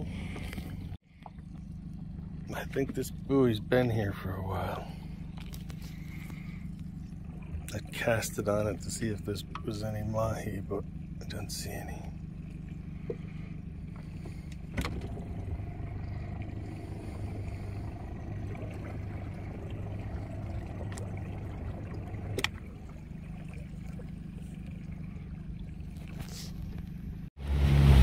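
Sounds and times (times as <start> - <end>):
boat engine idling: 0.0 - 27.3.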